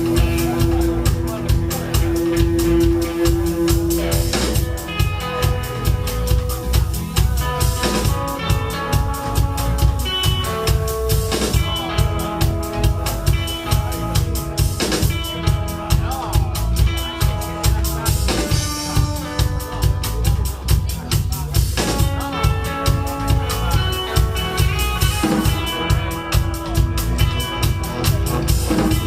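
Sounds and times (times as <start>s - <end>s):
drum kit fast beat: 0.0s - 29.0s
live band playing dance-rock: 0.0s - 29.0s.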